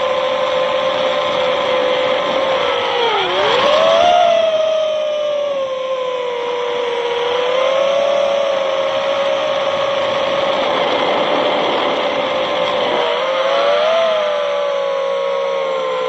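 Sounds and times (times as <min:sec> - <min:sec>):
drone motors whining: 0:00.0 - 0:16.0
wind on microphone: 0:00.0 - 0:16.0.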